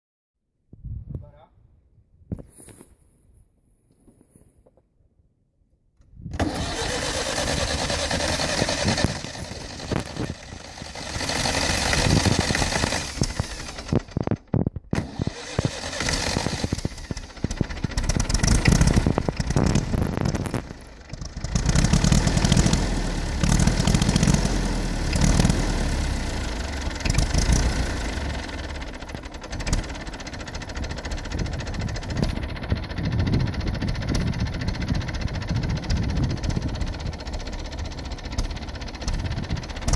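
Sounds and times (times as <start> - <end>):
tractor engine idling unsteadily: 6.4 - 39.9.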